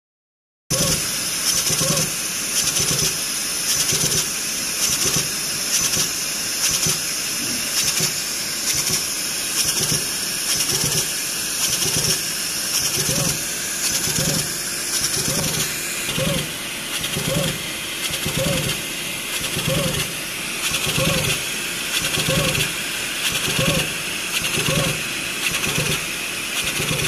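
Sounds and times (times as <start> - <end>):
high machine hiss: 0.7 - 27.0
rapid needle punching strokes: 0.7 - 27.0.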